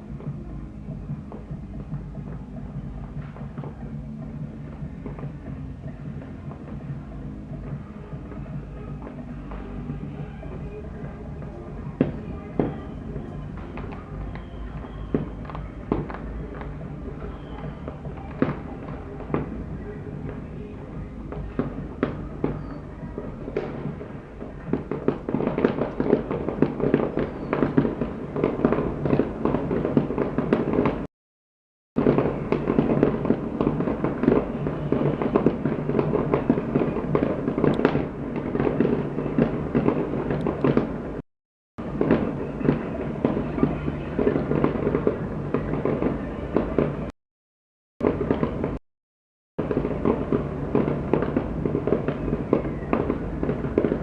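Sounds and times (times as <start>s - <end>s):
fireworks bangs and crackling: 0.0s - 31.1s, 32.0s - 41.2s, 41.8s - 47.2s, 48.0s - 48.8s, 49.6s - 54.0s.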